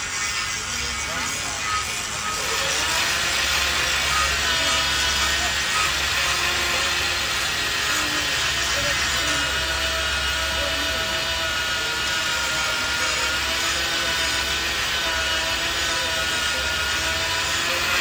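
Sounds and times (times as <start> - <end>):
power drill boring into steel: 0.0 - 18.0.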